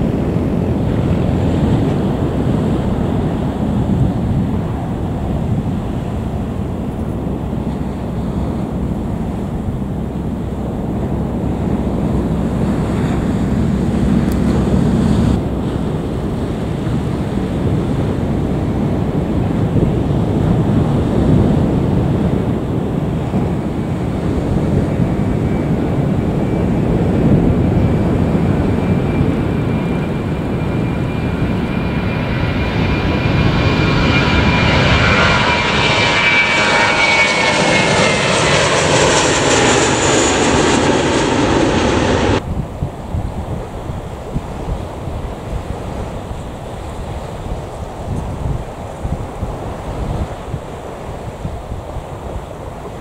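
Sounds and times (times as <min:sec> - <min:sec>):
high jet whine: 0:00.0 - 0:53.0
jet engines roaring: 0:00.0 - 0:53.0.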